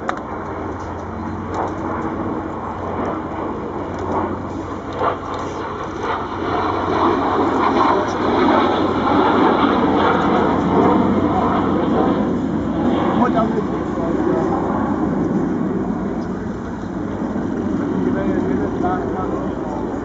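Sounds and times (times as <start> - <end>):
jet flying overhead: 0.0 - 20.0.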